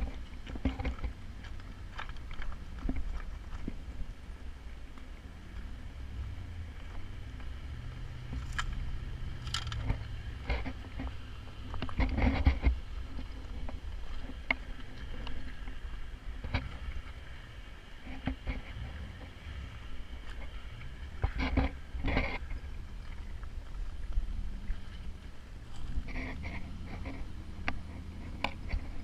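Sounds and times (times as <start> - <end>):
engine running low: 0.0 - 29.0.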